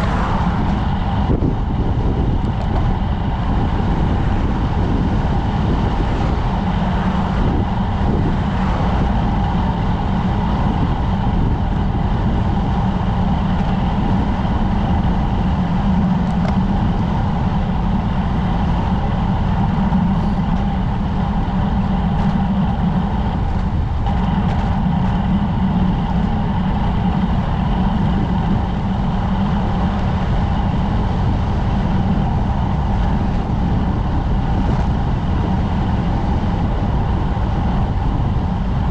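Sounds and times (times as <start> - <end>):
bicycle tyre noise: 0.0 - 38.9
wind rush on microphone: 0.0 - 38.9.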